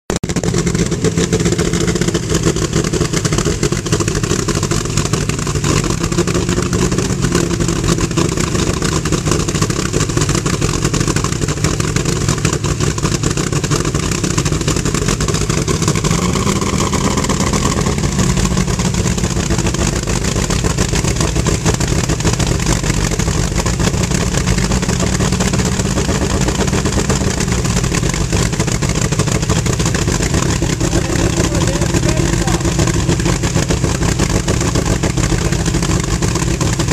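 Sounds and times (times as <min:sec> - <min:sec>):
car engine running: 0:00.1 - 0:36.9.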